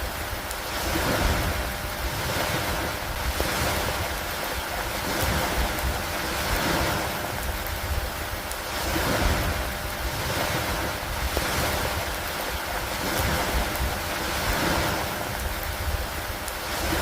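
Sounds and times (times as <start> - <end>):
heavy rain hissing: 0.0 - 17.0
wind rumble: 0.0 - 17.0.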